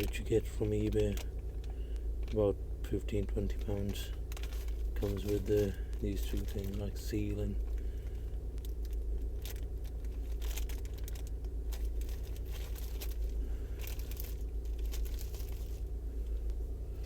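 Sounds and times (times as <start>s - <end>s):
parts crinkling and clicking: 0.0s - 16.6s
diesel engine idling: 0.0s - 17.0s.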